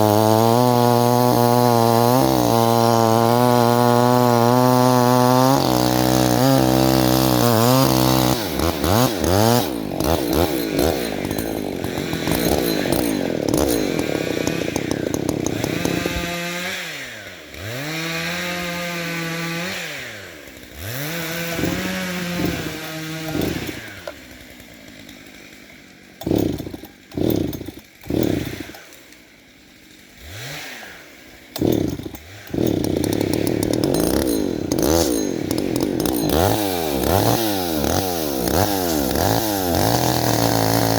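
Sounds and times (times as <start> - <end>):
chainsaw cutting and revving: 0.0 - 40.9.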